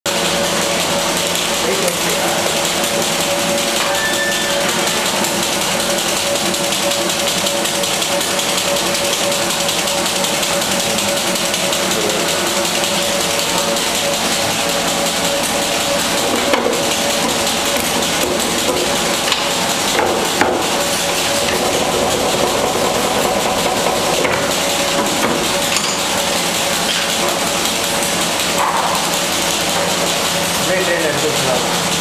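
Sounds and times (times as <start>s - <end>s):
machine mechanical hum: 0.1s - 32.0s.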